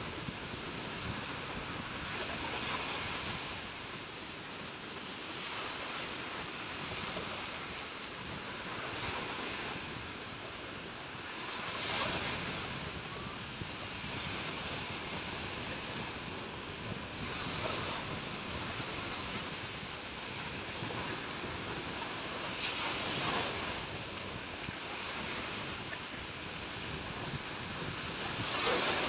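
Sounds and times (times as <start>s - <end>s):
sea waves breaking on shore: 0.0s - 29.0s
wind buffeting microphone: 0.0s - 29.0s.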